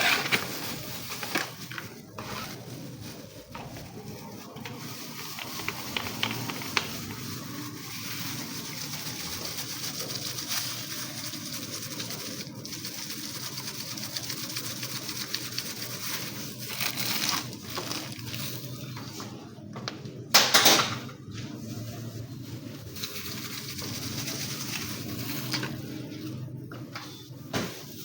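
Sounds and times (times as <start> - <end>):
rustling and crinkling handling: 0.0 - 20.2, 21.1 - 28.0.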